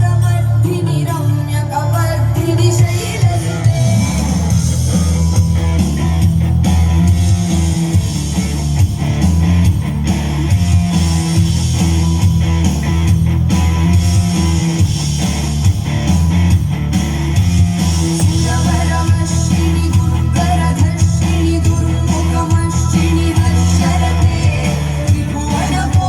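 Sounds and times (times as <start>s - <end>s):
loud music with guitar and bass: 0.0s - 26.0s.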